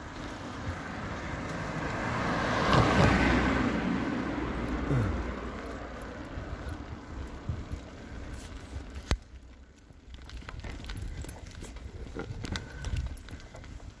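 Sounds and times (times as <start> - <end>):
bicycle tyre rumble: 0.0 - 14.0
bike rattling: 0.0 - 14.0.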